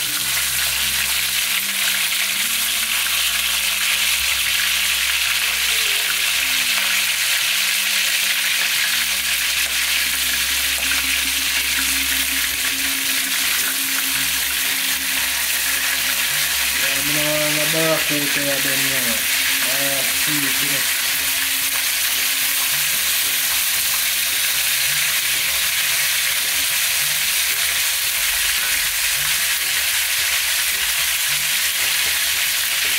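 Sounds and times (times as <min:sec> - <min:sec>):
fish sizzling in hot oil: 0:00.0 - 0:32.9.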